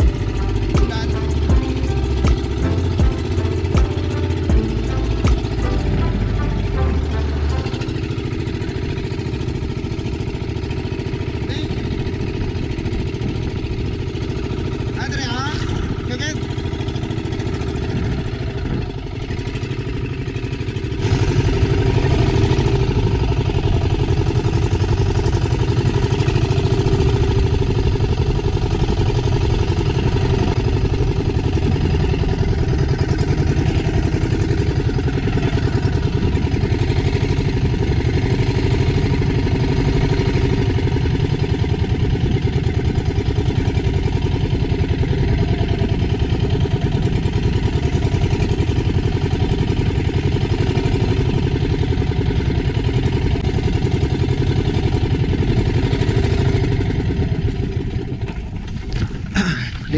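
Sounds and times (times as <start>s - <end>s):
small boat engine running: 0.0s - 59.9s.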